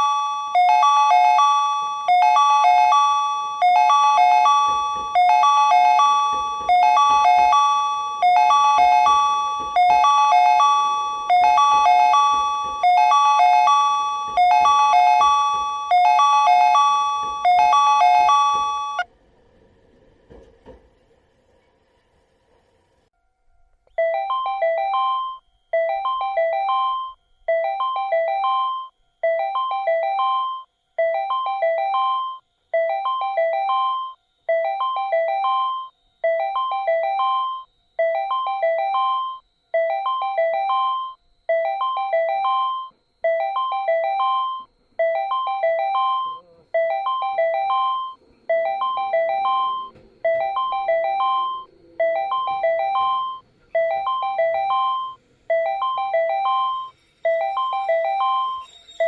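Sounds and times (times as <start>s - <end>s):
electronic warning chime: 0.0s - 19.1s, 24.0s - 59.0s.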